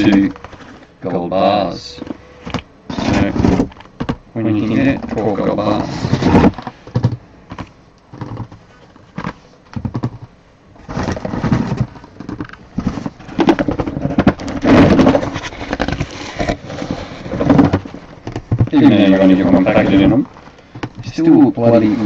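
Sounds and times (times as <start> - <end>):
card boxes knocking and clicking: 0.0 - 0.8, 1.8 - 22.0
packaging rustling: 1.9 - 22.0.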